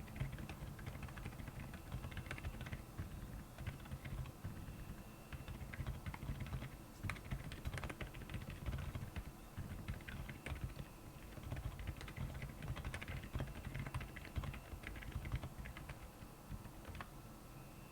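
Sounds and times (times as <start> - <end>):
typing on mechanical keyboard: 0.0 - 17.1.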